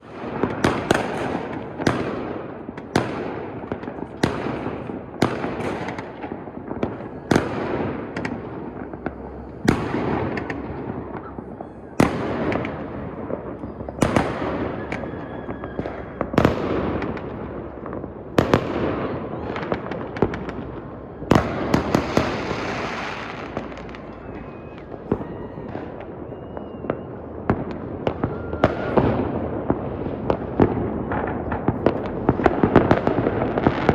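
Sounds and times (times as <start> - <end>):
fireworks bangs: 0.0 - 33.9
fireworks crackling and rumbling: 0.0 - 33.9.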